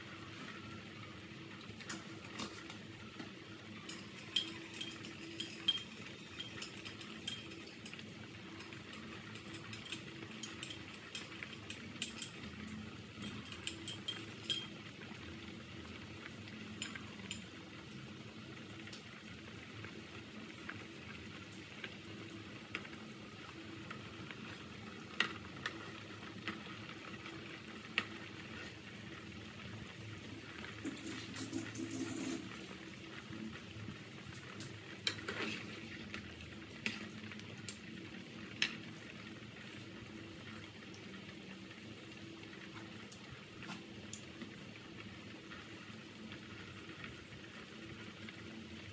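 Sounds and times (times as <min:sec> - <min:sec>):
soup boiling in metal pot: 0:00.0 - 0:48.9.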